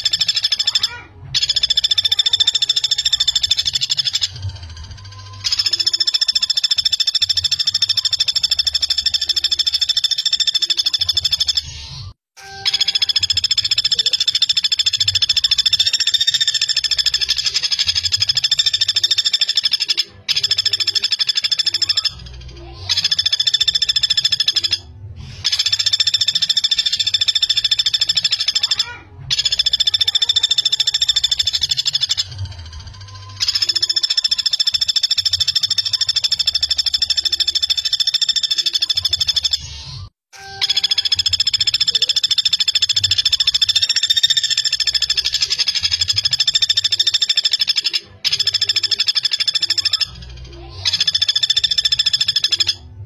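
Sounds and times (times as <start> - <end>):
woodpecker rattling trills: 0.0 - 53.0.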